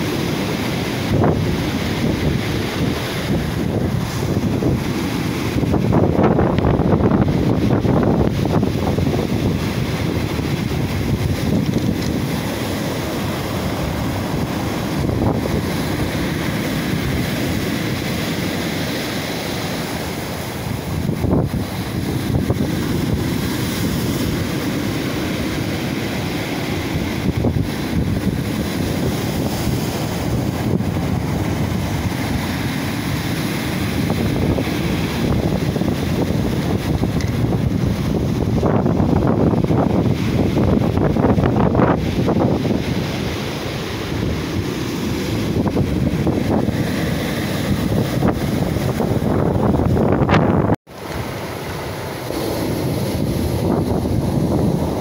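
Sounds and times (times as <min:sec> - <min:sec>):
surf breaking on pebble beach: 0:00.0 - 0:55.0
wind on microphone: 0:00.0 - 0:55.0.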